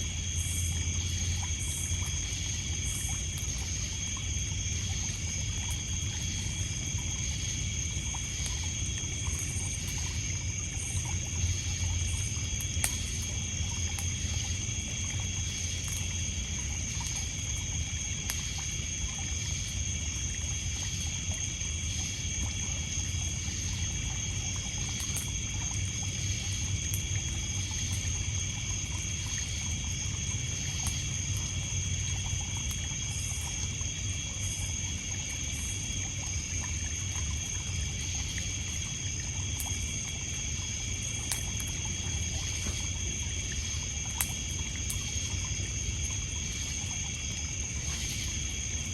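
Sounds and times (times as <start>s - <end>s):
campfire crackles: 0.0s - 48.9s
crickets and night insects: 0.0s - 48.9s
water lapping on pebbles: 0.2s - 48.9s.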